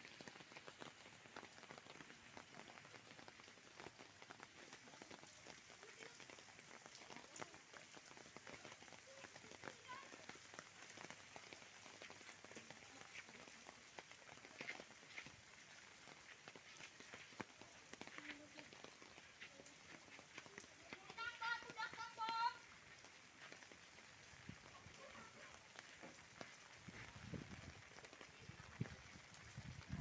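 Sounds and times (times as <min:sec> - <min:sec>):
faint steady rain: 0:00.0 - 0:30.0.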